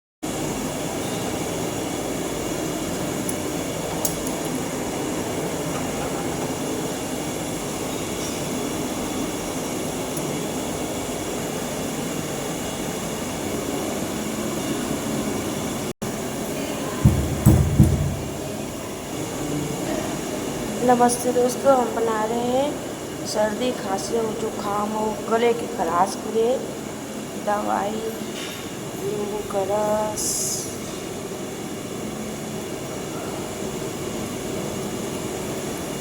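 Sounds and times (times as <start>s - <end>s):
steady background noise: 0.2s - 36.0s.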